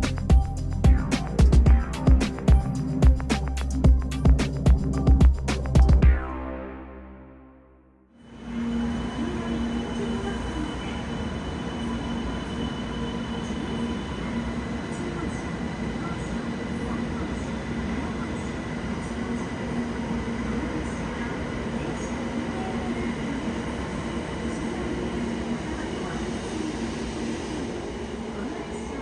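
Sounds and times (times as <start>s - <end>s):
train running: 0.0s - 5.8s, 8.3s - 29.0s.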